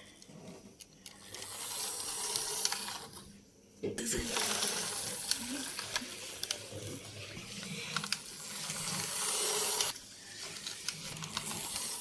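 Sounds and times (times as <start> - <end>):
toy car rolling: 0.2 - 3.3, 4.2 - 12.0.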